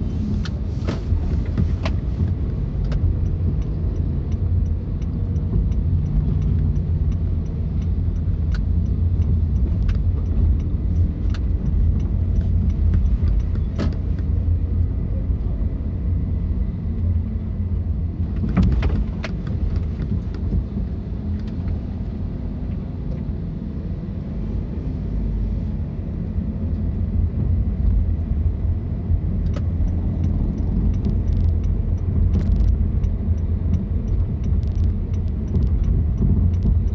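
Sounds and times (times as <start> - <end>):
car engine and road rumble: 0.0 - 36.9.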